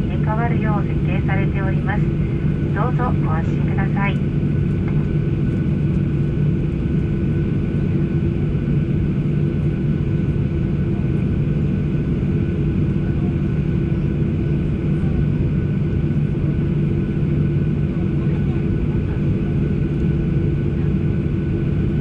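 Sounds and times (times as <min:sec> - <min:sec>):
airplane cabin hum: 0:00.0 - 0:22.0.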